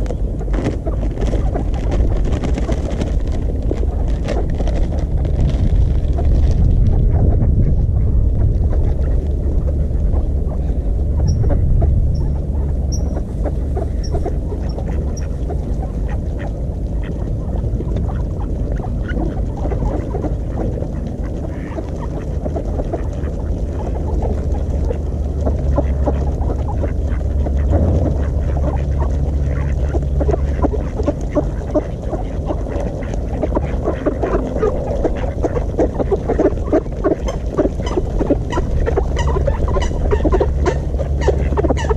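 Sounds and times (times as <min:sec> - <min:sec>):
steady low rumble: 0:00.0 - 0:41.9
ducks quacking: 0:06.0 - 0:41.9.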